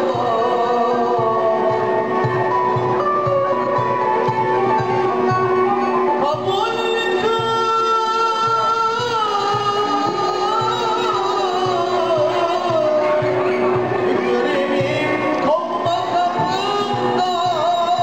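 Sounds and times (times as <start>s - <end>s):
man singing: 0.0s - 3.7s, 5.8s - 18.0s
steady drum beat: 0.0s - 18.0s
violin: 0.0s - 18.0s.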